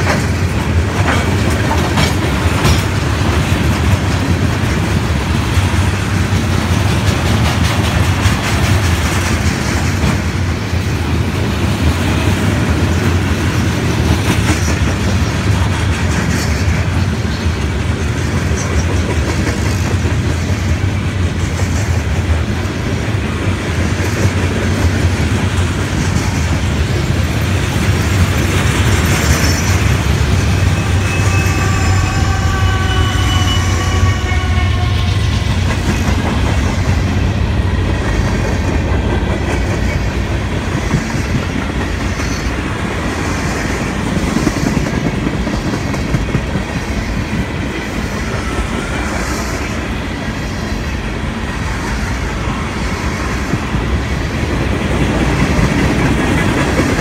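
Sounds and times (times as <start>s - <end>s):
freight train wheels rolling on rails: 0.0s - 57.0s.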